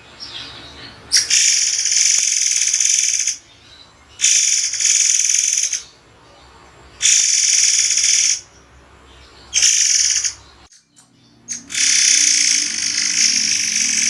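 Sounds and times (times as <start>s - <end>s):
bird singing harsh pulsing phrases: 0.0s - 14.0s.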